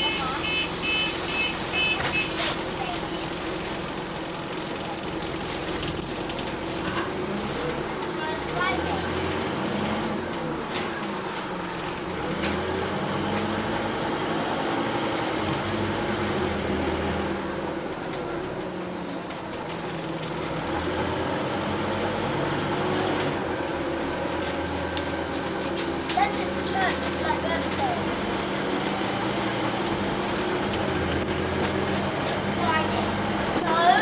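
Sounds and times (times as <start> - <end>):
bus diesel engine droning: 0.0 - 34.0
road noise: 0.0 - 34.0.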